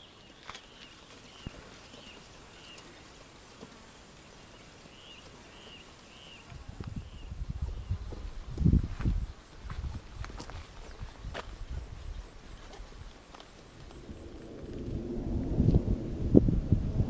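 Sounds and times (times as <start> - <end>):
insects buzzing: 0.0 - 15.9.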